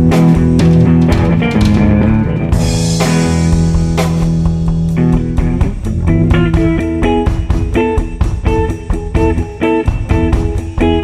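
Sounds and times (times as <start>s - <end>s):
bass line: 0.0s - 11.0s
plucked guitar notes: 0.0s - 11.0s.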